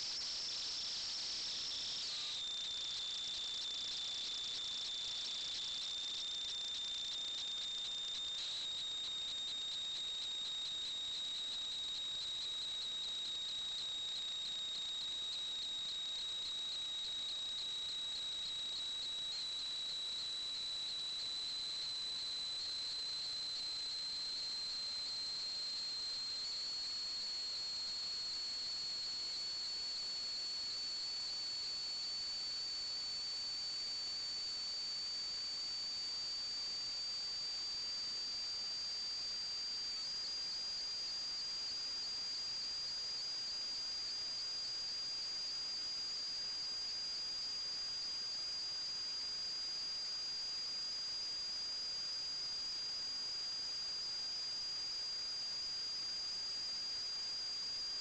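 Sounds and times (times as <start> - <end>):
high-pitched electronic whine: 0.0 - 58.0.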